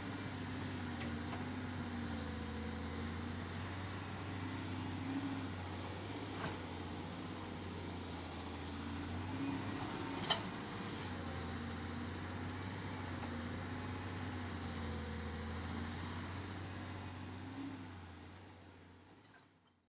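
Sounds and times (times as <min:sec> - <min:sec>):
engine droning: 0:00.0 - 0:19.6.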